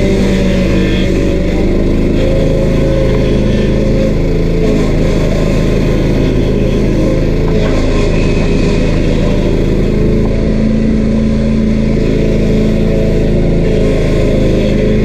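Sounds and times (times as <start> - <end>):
stump grinder engine running: 0.0 - 15.0.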